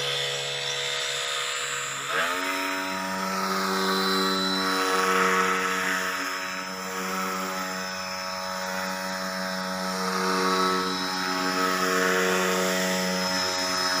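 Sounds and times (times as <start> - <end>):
rc airboat motor and propeller: 0.0 - 14.0.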